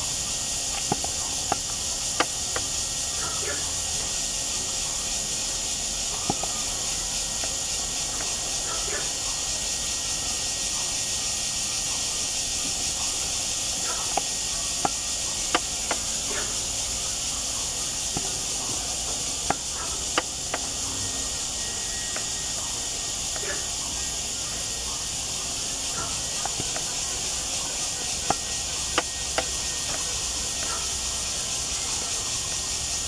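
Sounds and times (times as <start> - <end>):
steady high-pitched hiss: 0.0 - 33.0.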